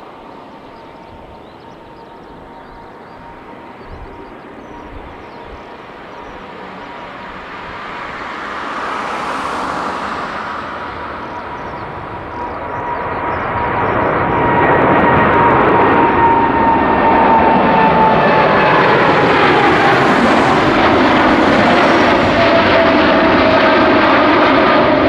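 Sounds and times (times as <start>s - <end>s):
high engine whine: 0.0s - 25.0s
jet engines at takeoff: 0.0s - 25.0s.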